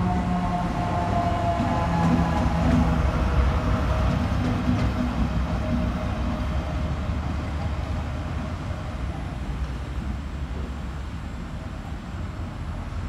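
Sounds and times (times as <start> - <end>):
diesel locomotive engine rumbling: 0.0 - 13.0.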